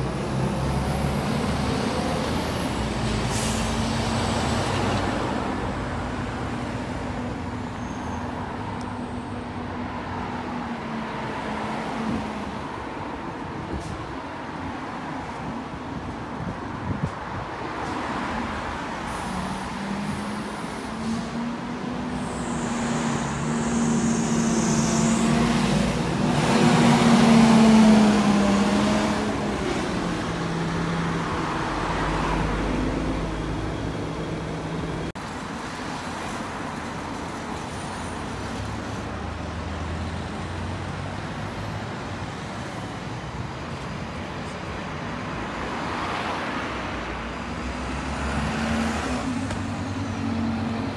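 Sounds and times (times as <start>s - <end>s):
bus engine hum: 0.0s - 50.9s
road traffic noise: 0.0s - 50.9s.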